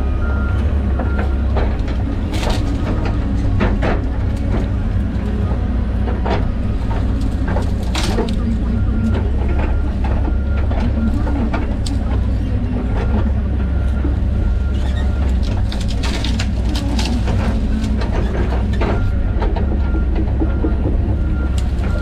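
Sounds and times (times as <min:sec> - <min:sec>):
excavator diesel engine running: 0:00.0 - 0:22.0
machine knocks and clanks: 0:01.0 - 0:22.0.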